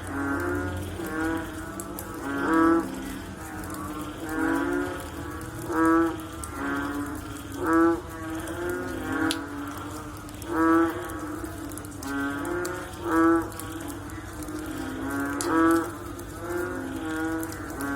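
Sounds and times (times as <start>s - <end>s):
frogs calling: 0.0s - 17.9s.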